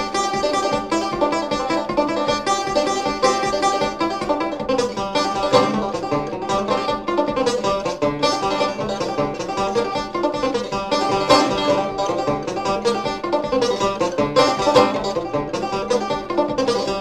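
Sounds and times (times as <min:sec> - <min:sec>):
banjo picking: 0:00.0 - 0:17.0.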